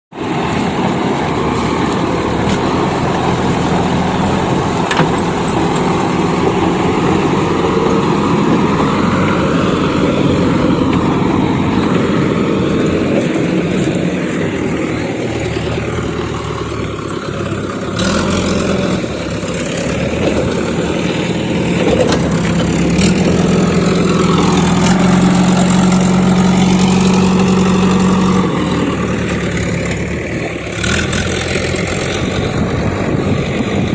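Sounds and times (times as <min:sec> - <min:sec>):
backhoe diesel engine running: 0:00.1 - 0:33.9
tractor engine running: 0:00.1 - 0:33.9.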